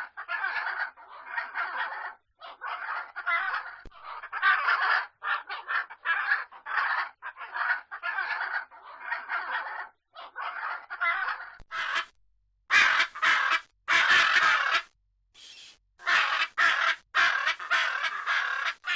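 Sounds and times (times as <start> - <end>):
macaws squawking: 0.0 - 12.1, 12.7 - 18.9.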